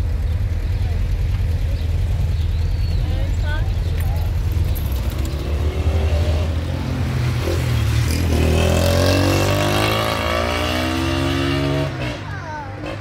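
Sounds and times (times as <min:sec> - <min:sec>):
vehicle engine speeding up: 0:01.6 - 0:12.2.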